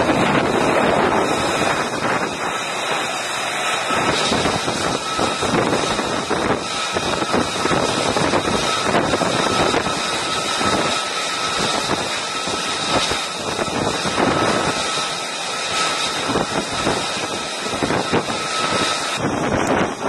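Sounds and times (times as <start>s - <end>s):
jet engine running with high whine: 0.0s - 20.0s
wind buffeting microphone: 0.0s - 20.0s.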